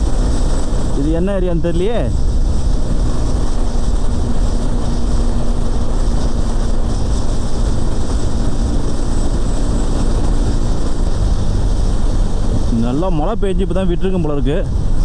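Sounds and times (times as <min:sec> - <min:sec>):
motorcycle engine cruising: 0:00.0 - 0:15.0
wind rush on microphone: 0:00.0 - 0:15.0.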